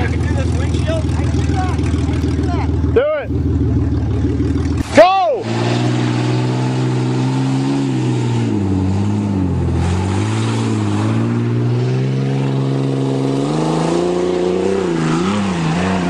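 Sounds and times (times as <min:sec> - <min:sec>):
pickup engine revving: 0:00.0 - 0:16.0.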